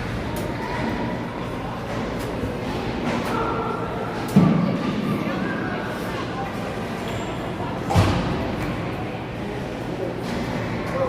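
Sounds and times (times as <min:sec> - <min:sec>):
faint voices: 0:00.0 - 0:11.0
steady arena hum: 0:00.0 - 0:11.0.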